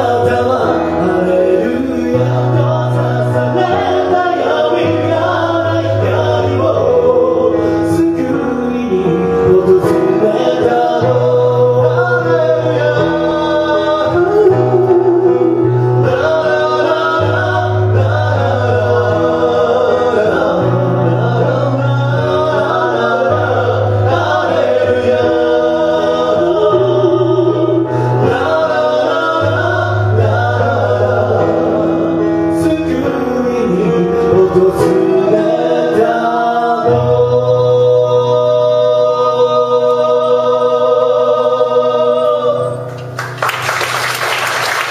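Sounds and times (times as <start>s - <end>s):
voices singing held notes: 0.0s - 43.2s.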